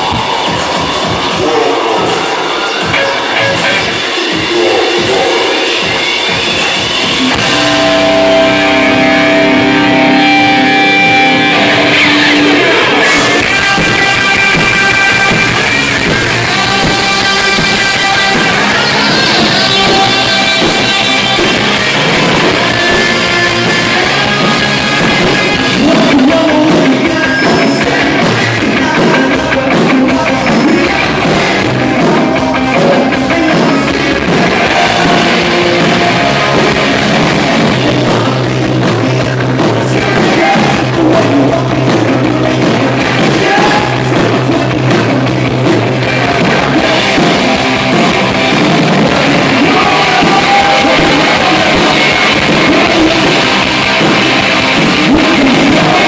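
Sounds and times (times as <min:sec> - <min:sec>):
drums and cymbals: 0:00.0 - 0:56.0
live rock band playing: 0:00.0 - 0:56.0.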